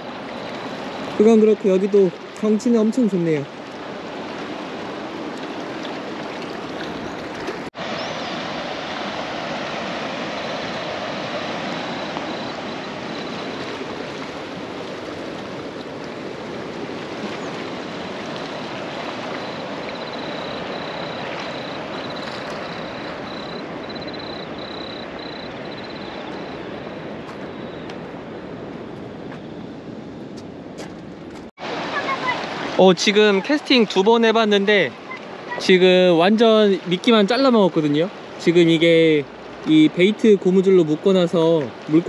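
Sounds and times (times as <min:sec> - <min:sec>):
fast-flowing water rushing: 0:00.0 - 0:27.2, 0:31.6 - 0:42.0.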